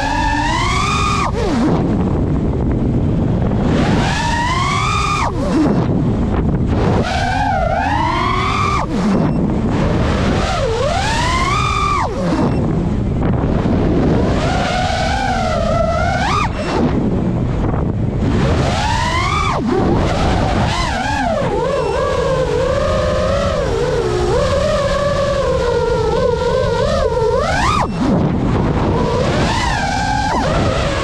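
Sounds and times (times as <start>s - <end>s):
drone motors whining: 0.0s - 31.0s
wind noise: 0.0s - 31.0s.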